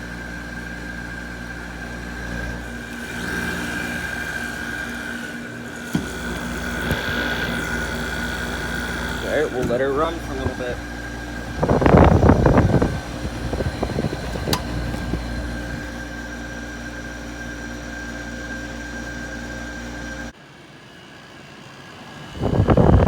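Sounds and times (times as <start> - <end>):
air conditioner humming: 0.0 - 20.3.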